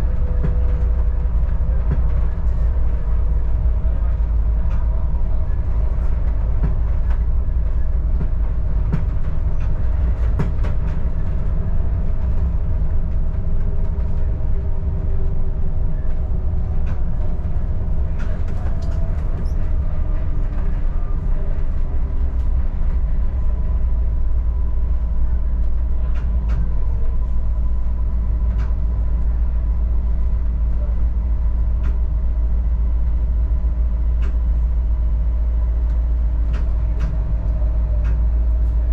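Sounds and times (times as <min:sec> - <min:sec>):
train rumbling on board: 0:00.0 - 0:38.9.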